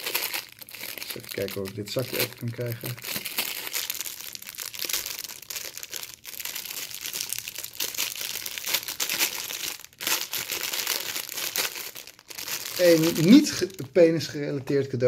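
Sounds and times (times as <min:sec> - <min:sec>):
plastic bag crinkling: 0:00.0 - 0:14.9.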